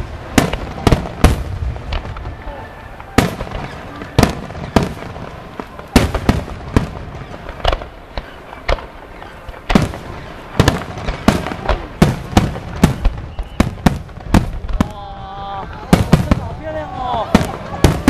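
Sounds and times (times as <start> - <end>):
rumble of firework bursts: 0.0 - 18.0.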